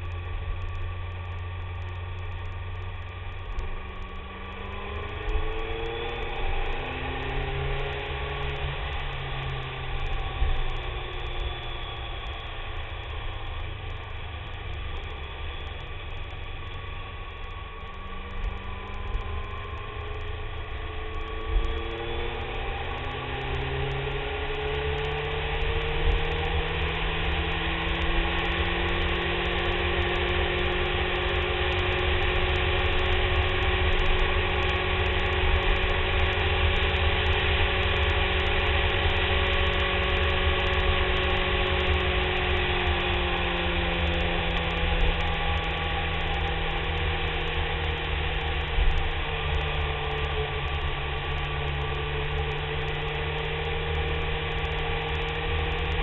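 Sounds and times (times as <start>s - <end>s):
motorcycle engine accelerating: 0.0s - 56.0s
wind and road noise: 0.0s - 56.0s.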